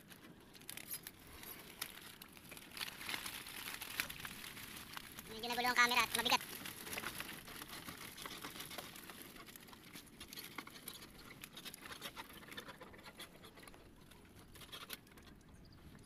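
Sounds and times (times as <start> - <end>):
fish flapping in wire trap: 0.0 - 15.3.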